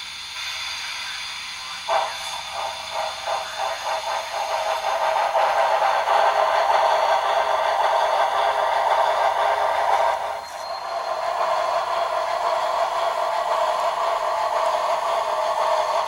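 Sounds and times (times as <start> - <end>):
steam chuffs from small speaker: 0.0 - 16.0.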